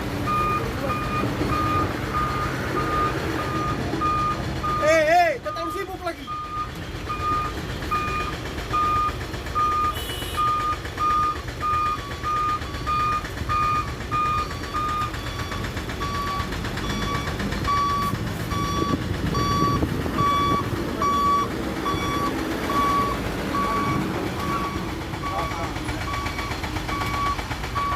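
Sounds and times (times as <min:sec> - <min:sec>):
diesel engine running: 0:00.0 - 0:27.9
truck back-up alarm beeping: 0:00.0 - 0:27.9.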